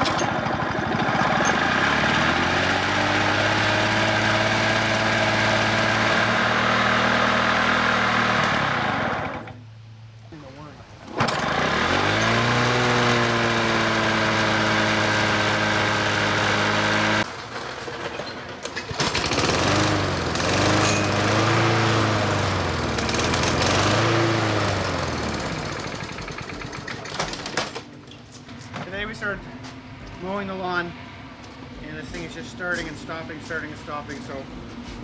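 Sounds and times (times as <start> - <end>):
lawn mower engine running: 0.0 - 9.6, 11.0 - 35.0.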